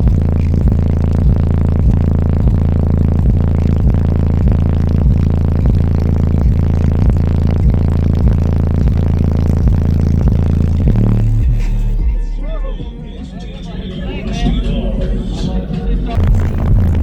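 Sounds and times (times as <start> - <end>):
bass-heavy music from subwoofers: 0.0 - 17.0.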